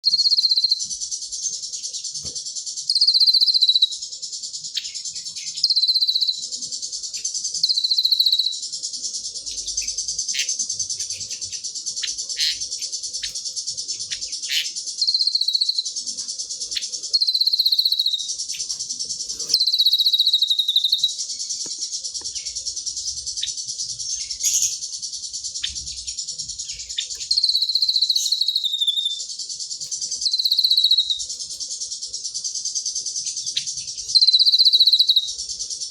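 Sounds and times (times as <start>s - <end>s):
songbird trilling: 0.0s - 35.9s.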